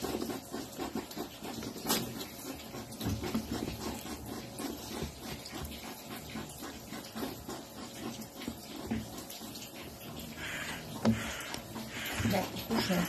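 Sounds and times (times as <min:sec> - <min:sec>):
hedgehogs chewing and smacking: 0:00.0 - 0:13.0.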